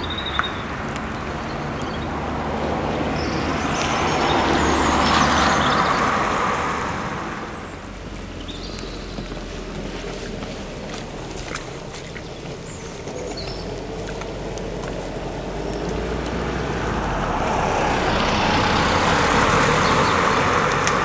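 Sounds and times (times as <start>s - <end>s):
road vehicle passing by: 0.0s - 21.0s.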